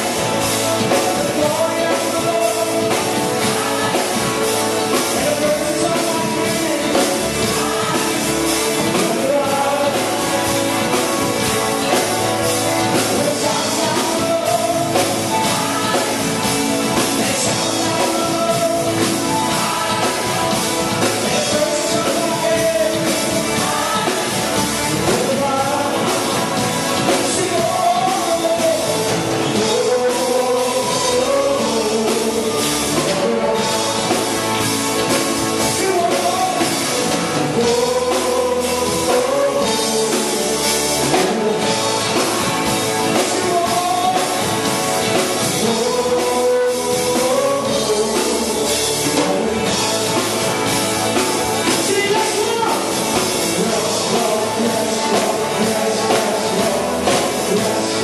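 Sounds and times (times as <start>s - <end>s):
live band playing: 0.0s - 58.0s
person singing: 0.0s - 58.0s.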